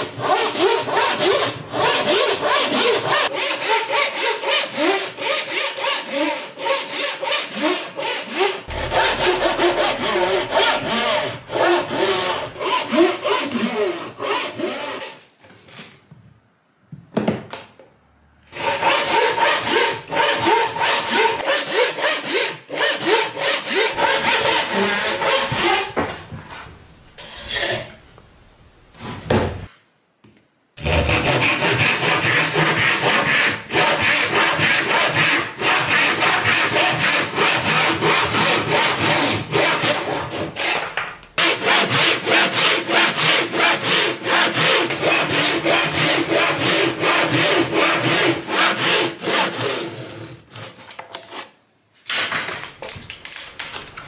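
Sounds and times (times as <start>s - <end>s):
hand saw cutting wood: 0.0s - 15.2s, 18.5s - 26.1s, 27.2s - 27.9s, 30.8s - 51.5s.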